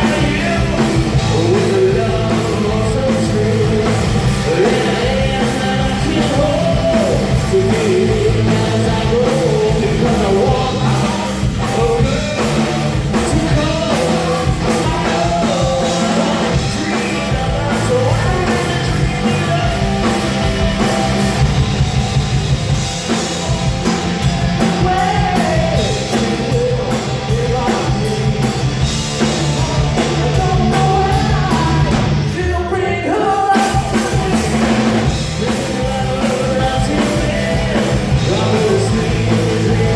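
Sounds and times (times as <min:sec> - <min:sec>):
person singing: 0:00.0 - 0:21.4, 0:24.6 - 0:39.9
punk rock band playing: 0:00.0 - 0:39.9.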